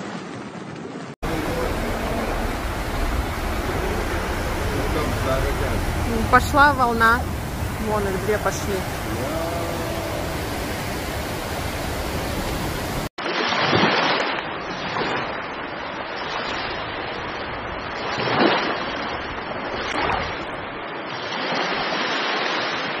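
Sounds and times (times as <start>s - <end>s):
rushing floodwater roar: 0.0s - 23.0s
waves breaking on a seawall: 0.0s - 23.0s.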